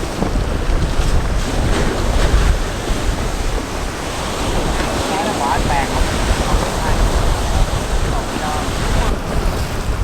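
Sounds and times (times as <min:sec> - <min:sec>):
waves washing: 0:00.0 - 0:10.0
wind buffeting microphone: 0:00.0 - 0:10.0.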